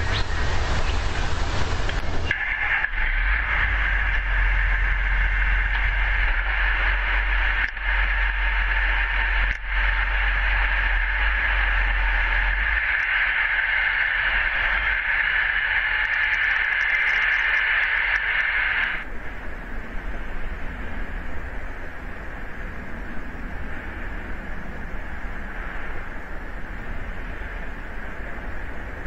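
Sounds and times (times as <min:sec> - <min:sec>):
low rumble: 0:00.0 - 0:29.0
static-like hiss: 0:00.0 - 0:29.0.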